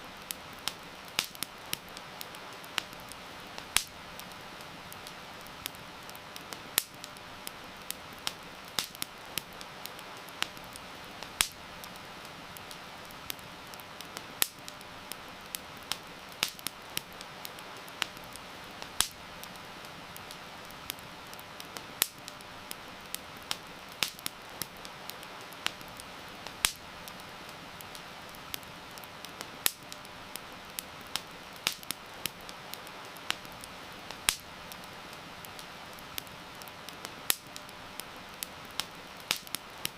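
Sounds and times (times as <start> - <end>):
rain hissing: 0.0 - 39.9
wood fire crackling and popping: 0.0 - 39.9.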